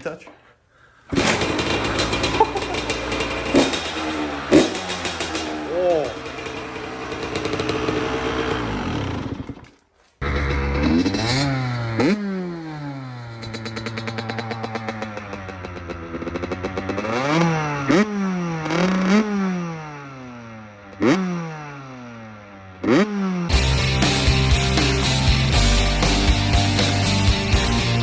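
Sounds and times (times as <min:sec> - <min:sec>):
dirt bike engine revving: 0:01.1 - 0:28.0.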